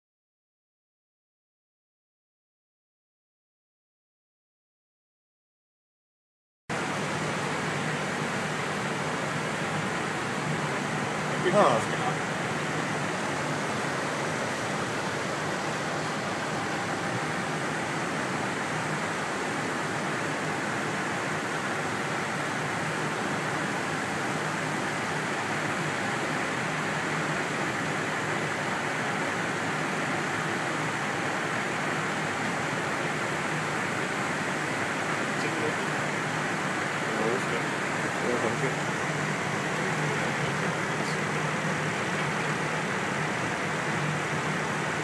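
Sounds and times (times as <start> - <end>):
air-conditioning hiss: 6.7 - 45.0.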